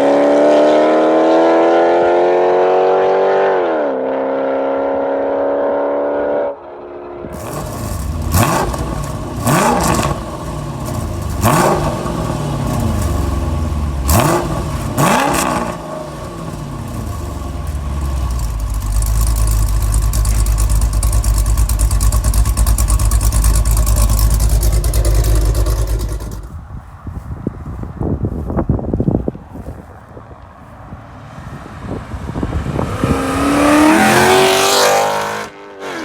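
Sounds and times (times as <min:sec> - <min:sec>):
car engine revving: 0:00.0 - 0:26.7, 0:32.1 - 0:36.0.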